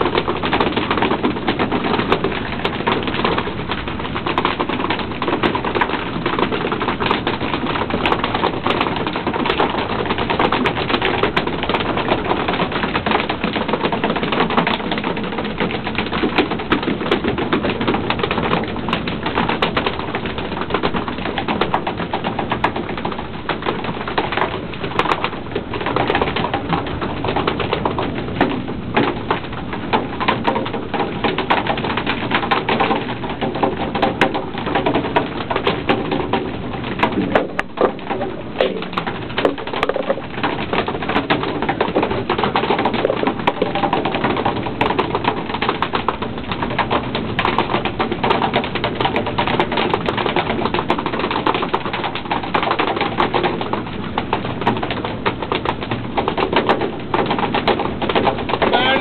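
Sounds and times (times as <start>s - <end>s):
taps and clatters on deck: 0.0s - 59.0s.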